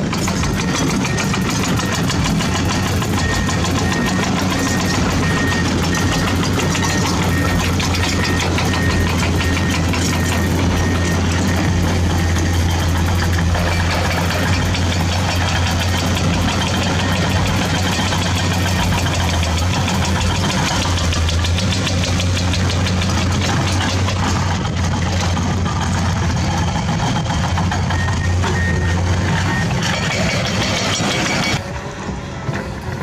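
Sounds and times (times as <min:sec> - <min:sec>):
toy engine idle with fast knocking: 0:00.0 - 0:28.2.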